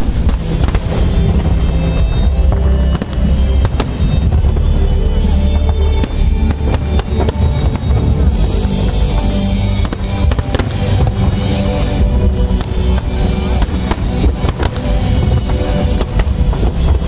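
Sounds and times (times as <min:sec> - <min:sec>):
fireworks bangs and crackles: 0:00.0 - 0:17.0
loud music: 0:00.0 - 0:17.0.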